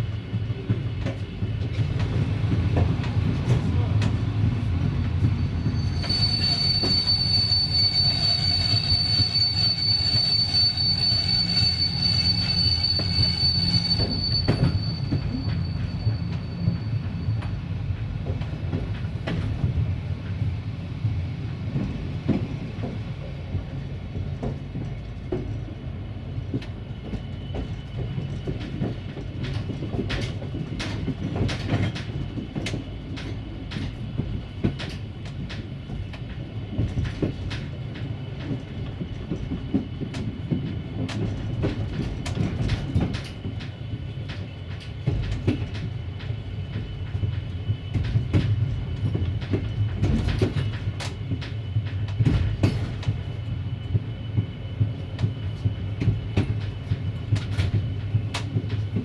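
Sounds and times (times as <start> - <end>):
low rumble of moving train: 0.0 - 59.0
train wheels squealing on rails: 0.0 - 59.0.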